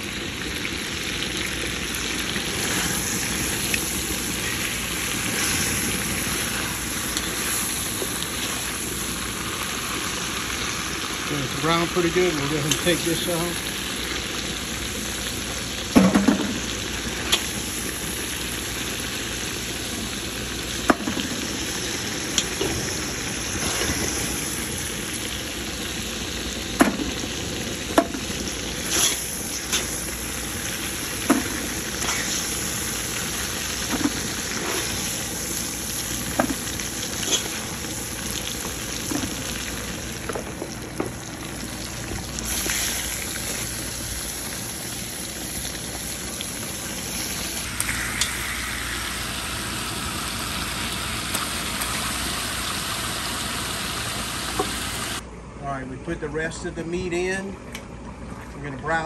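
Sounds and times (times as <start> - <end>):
meat sizzling in hot oil: 0.0 - 55.2.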